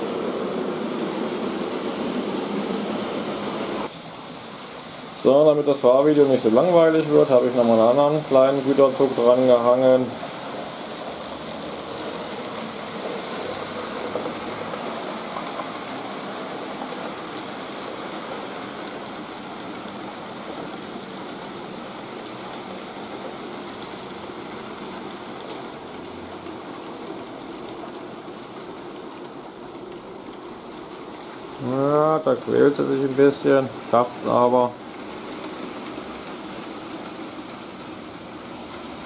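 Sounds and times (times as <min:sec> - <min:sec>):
model train wheels clattering on rails: 0:00.0 - 0:39.0
clicks over rail joints: 0:05.2 - 0:39.0.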